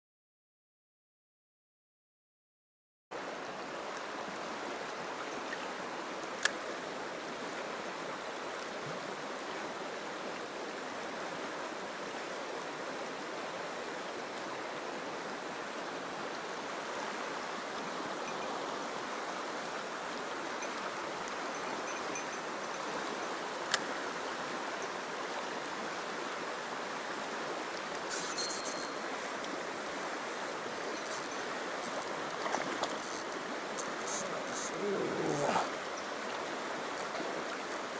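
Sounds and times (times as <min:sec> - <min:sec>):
stream rushing: 0:03.2 - 0:37.9.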